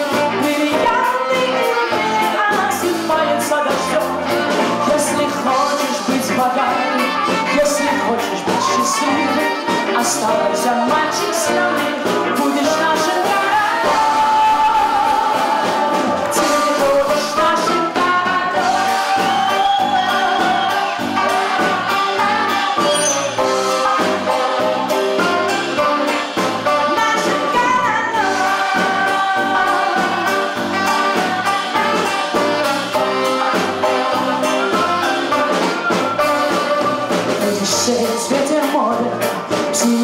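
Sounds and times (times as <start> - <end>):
brass lead melody: 0.0 - 40.0
jazz band playing: 0.0 - 40.0.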